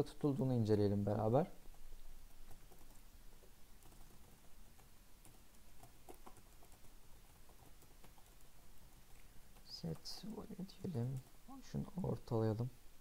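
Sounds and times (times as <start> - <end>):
keyboard typing: 1.6 - 12.1.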